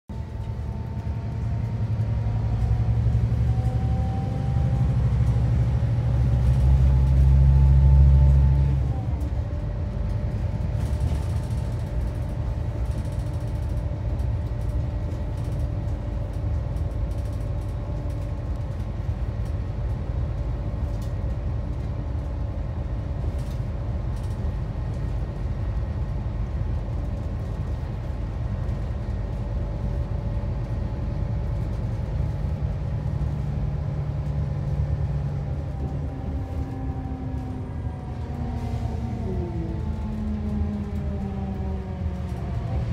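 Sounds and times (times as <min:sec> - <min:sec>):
engine and road rumble: 0:00.1 - 0:42.9.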